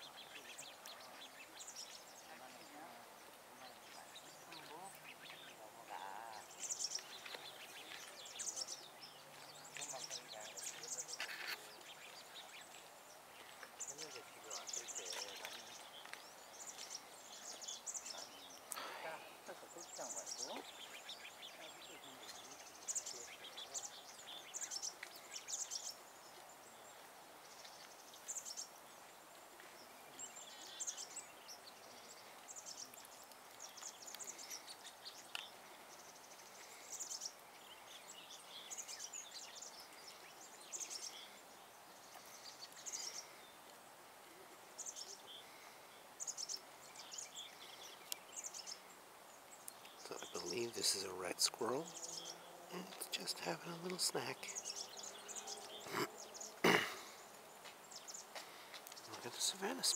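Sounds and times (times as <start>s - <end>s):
outdoor hiss: 0.0s - 59.9s.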